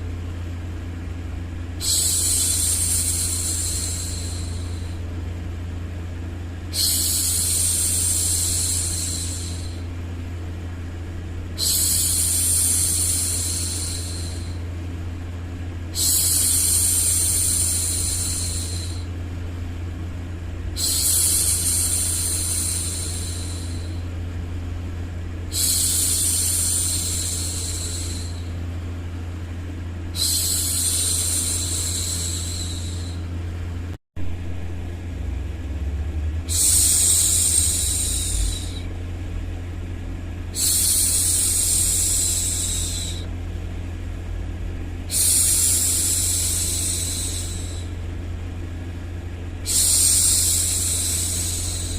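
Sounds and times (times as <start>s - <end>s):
steady low background noise: 0.0s - 51.9s.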